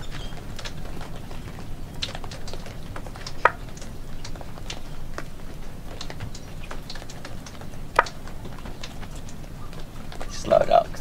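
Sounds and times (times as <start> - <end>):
sharp ticks from storm drain: 0.0 - 11.0.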